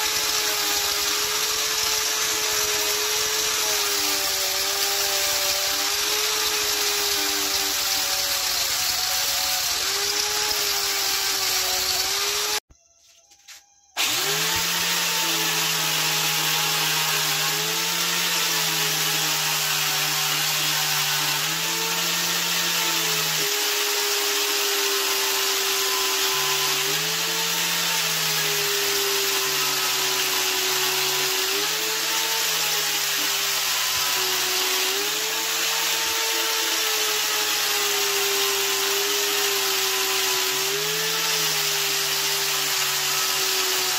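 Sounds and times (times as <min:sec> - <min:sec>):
angle grinder grinding steel: 0:00.0 - 0:12.7, 0:13.4 - 0:43.9.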